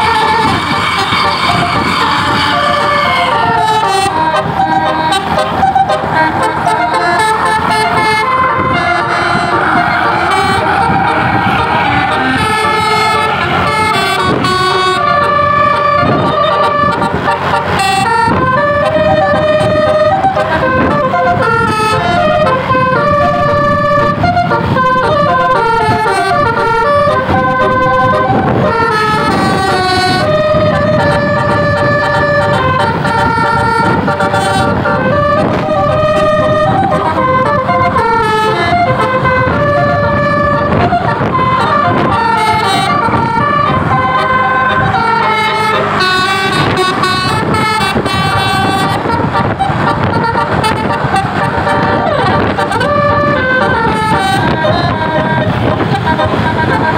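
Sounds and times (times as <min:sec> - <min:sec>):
bus engine rumble: 0:00.0 - 0:56.9
bus horn playing a melody: 0:00.0 - 0:56.9.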